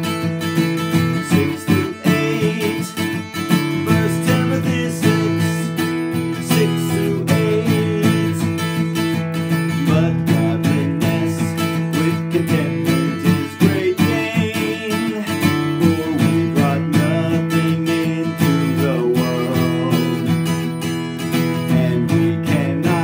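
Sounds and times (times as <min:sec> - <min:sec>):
acoustic guitar strummed: 0:00.0 - 0:23.0
man singing: 0:00.0 - 0:23.0.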